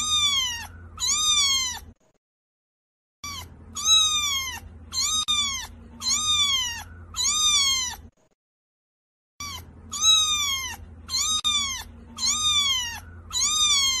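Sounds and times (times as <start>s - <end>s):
cat meowing: 0.0s - 2.0s, 3.2s - 8.1s, 9.4s - 14.0s.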